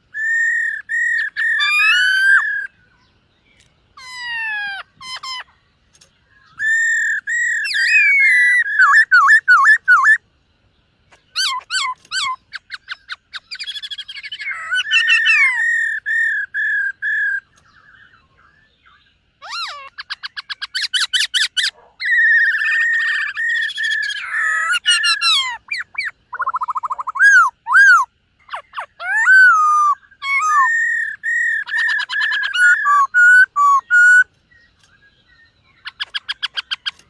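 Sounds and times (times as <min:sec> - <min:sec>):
bird singing whistled phrases: 0:00.1 - 0:03.1, 0:06.4 - 0:10.2, 0:11.3 - 0:18.2, 0:18.8 - 0:37.0.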